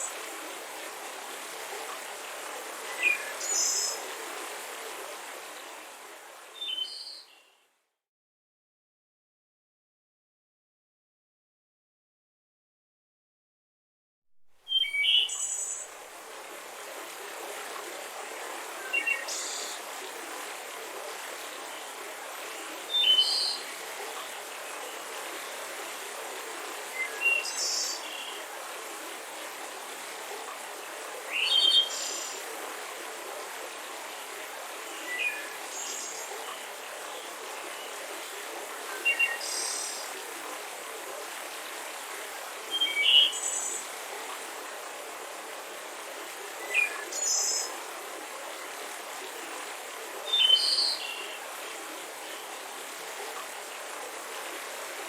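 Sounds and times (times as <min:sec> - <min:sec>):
mountain river rushing: 0:00.0 - 0:06.6, 0:15.8 - 0:55.0.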